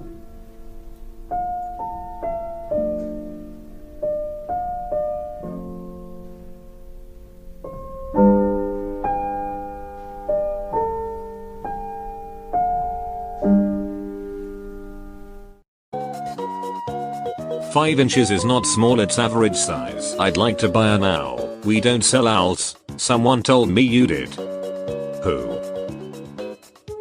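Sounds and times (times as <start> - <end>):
slow piano melody: 0.0 - 21.7.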